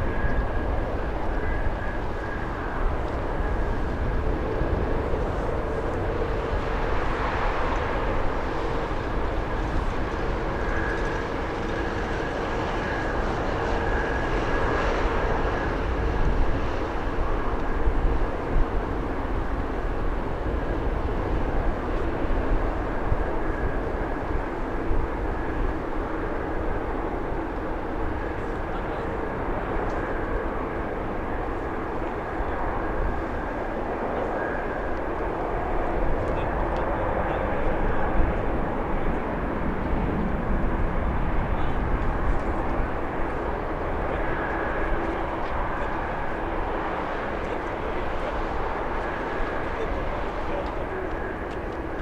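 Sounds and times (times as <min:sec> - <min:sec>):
jet engines at takeoff: 0:00.0 - 0:52.0.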